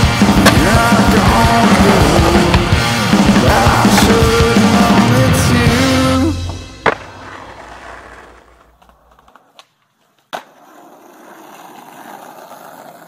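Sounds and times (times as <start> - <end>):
skateboard clacking: 0.0 - 2.8, 3.4 - 5.0, 6.5 - 13.0
skateboard wheels rolling on pavement: 0.0 - 13.0.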